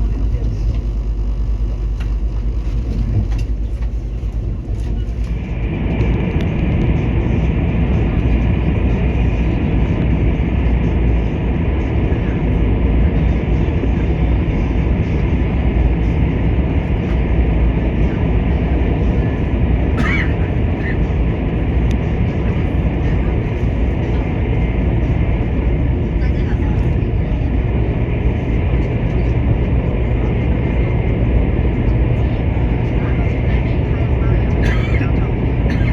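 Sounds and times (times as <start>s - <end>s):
train cabin running rumble: 0.0s - 35.9s.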